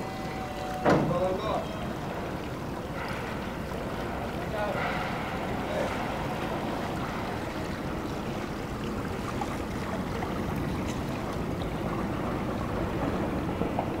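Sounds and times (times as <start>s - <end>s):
boat engine passing: 0.0s - 14.0s
rushing harbour water: 0.0s - 14.0s.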